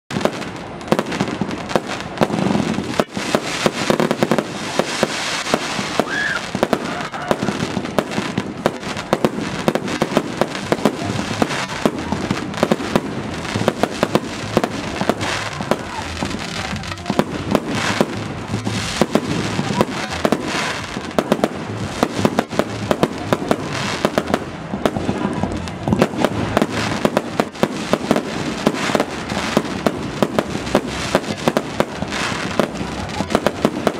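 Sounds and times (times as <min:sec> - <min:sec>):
fireworks bursting: 0:00.1 - 0:33.9
fireworks crackle: 0:00.1 - 0:33.9.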